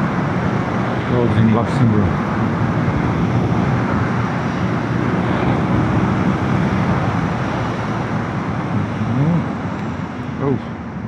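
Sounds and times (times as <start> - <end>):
wind rush: 0.0 - 11.0.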